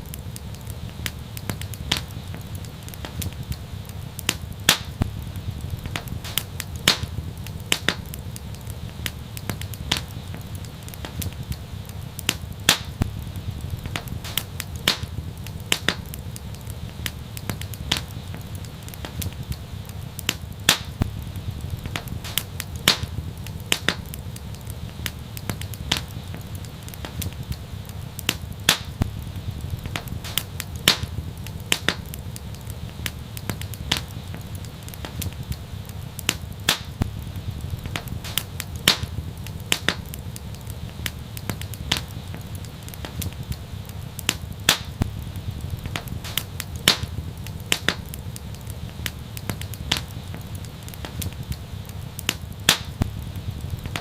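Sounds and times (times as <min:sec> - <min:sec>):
flames rumbling: 0:00.0 - 0:54.0
wood fire crackling and popping: 0:00.0 - 0:54.0.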